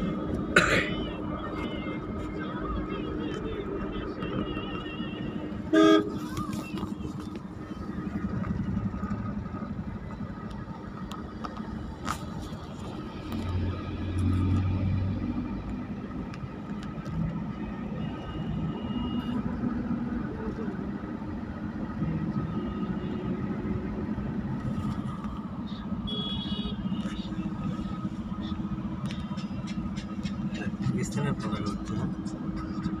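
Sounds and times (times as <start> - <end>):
car engine and tyre noise: 0.0 - 33.0.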